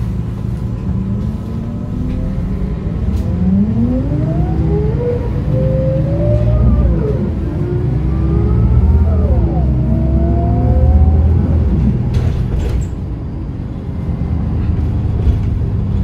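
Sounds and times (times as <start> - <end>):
bus engine accelerating: 0.0 - 16.0.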